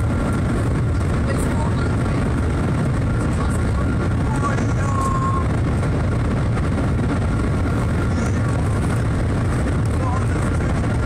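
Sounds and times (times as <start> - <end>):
train interior low rumble: 0.0 - 11.0.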